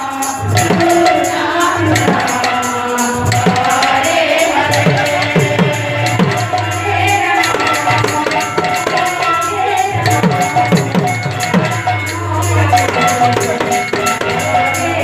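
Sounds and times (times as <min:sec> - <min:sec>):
held melody: 0:00.0 - 0:15.0
small hand cymbals clashing: 0:00.0 - 0:15.0.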